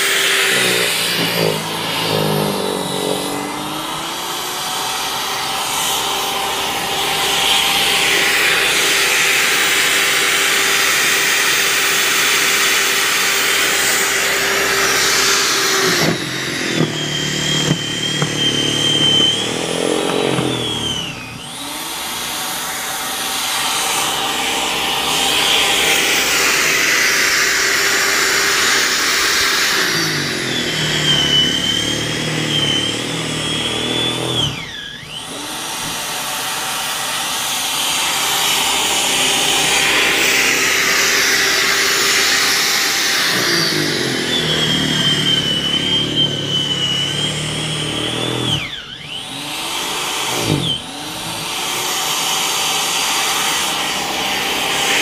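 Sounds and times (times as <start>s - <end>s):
electric snowblower running: 0.0s - 55.0s.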